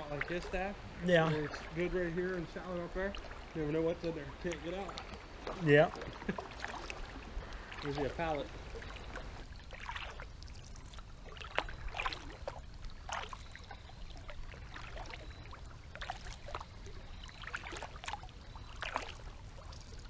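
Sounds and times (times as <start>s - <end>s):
kayak paddle splashing in water: 1.4s - 20.0s.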